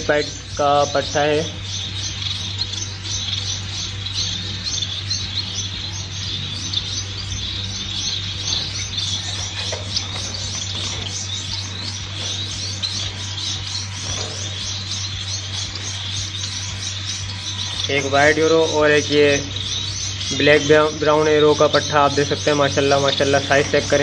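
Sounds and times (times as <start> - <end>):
finches chirping: 0.0 - 24.0
steady low hum: 0.0 - 24.0.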